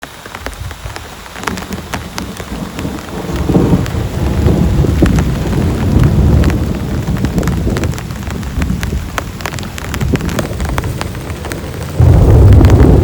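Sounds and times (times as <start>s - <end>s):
heavy rain: 0.0s - 13.0s
raindrops striking close by: 0.0s - 13.0s
thunder rumbling: 0.5s - 13.0s.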